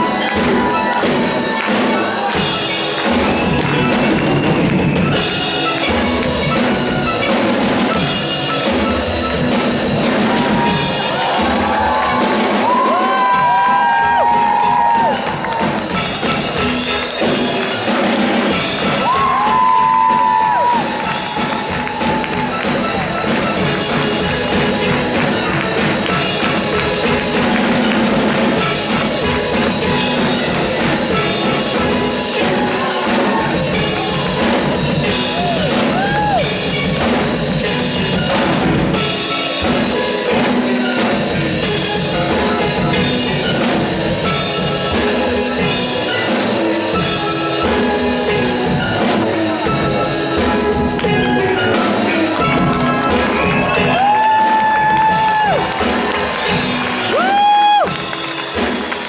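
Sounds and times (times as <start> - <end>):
steel band playing: 0.0 - 59.0.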